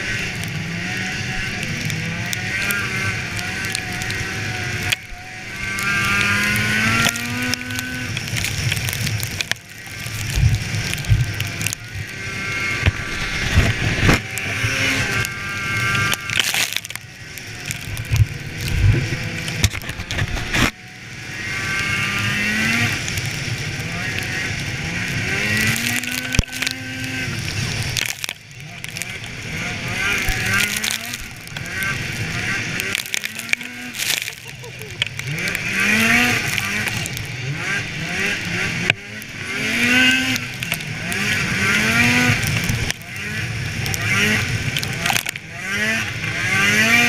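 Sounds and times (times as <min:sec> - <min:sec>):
snowmobile engine revving: 0:00.0 - 0:47.0.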